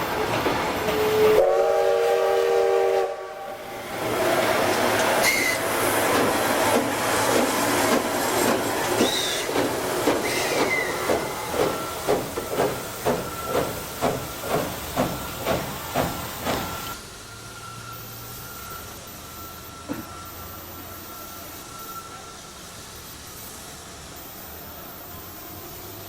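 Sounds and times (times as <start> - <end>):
steam locomotive chuffing: 0.0 - 26.0
steam locomotive hissing steam: 0.0 - 26.0.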